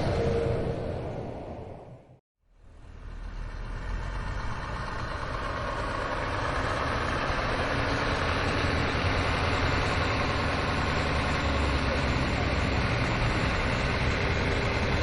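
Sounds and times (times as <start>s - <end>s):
heavy machinery engine running: 2.8s - 15.0s.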